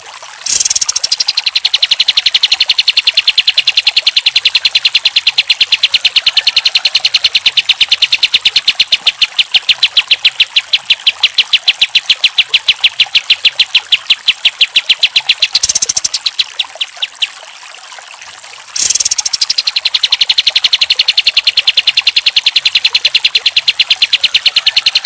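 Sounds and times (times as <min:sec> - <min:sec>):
bird rattling song: 0:00.4 - 0:17.4, 0:18.8 - 0:25.0.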